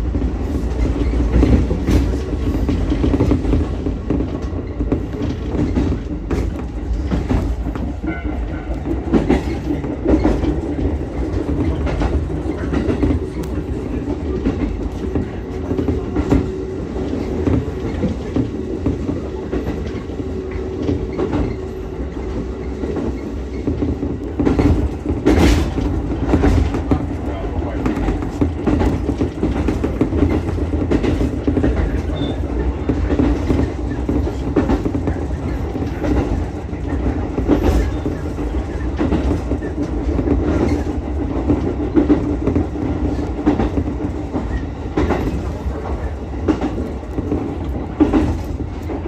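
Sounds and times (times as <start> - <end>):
train wheels rumbling on rail: 0.0 - 49.0
wheels clicking over rail joints: 0.2 - 49.0.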